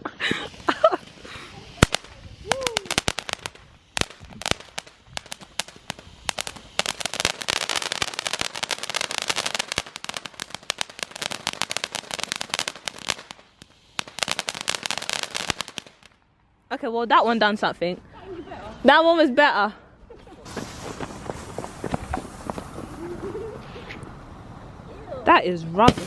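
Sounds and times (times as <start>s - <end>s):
firework cracking and popping: 0.0s - 16.6s, 20.4s - 24.6s, 25.8s - 26.0s.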